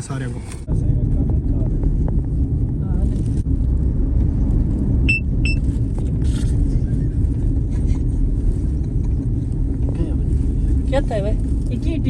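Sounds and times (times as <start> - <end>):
car engine rumble and road noise: 0.0 - 12.0.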